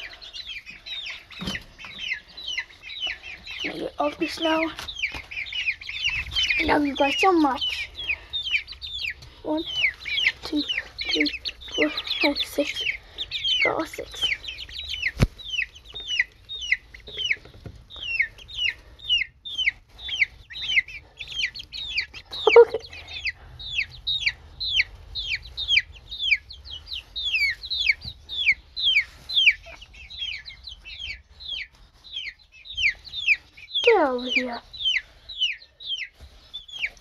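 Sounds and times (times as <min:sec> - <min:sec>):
chicks and ducklings peeping: 0:00.0 - 0:37.0.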